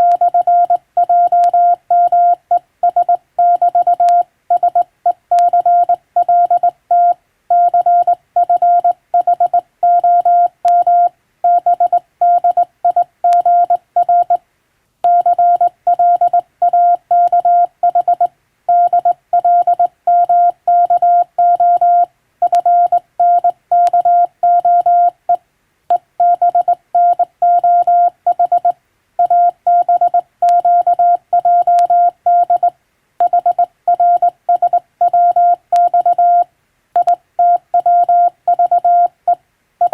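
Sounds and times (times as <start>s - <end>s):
morse code beeps: 0.0s - 14.4s, 15.1s - 25.2s, 26.2s - 39.9s.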